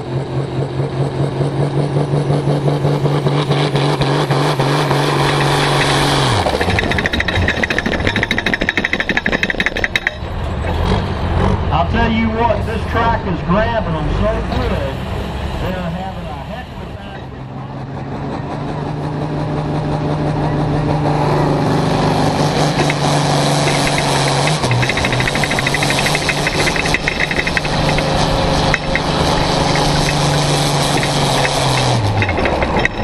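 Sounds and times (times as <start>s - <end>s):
tractor diesel engine revving: 0.0s - 33.0s.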